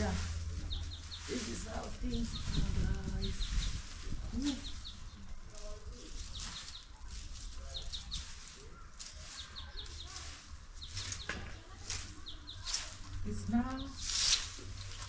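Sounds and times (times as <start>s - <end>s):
birds chirping: 0.0s - 15.0s
dry leaves swept off paving: 0.0s - 15.0s.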